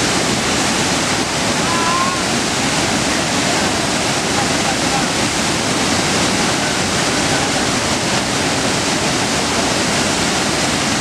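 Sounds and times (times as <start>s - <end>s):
waterfall rushing over boulders: 0.0s - 11.0s.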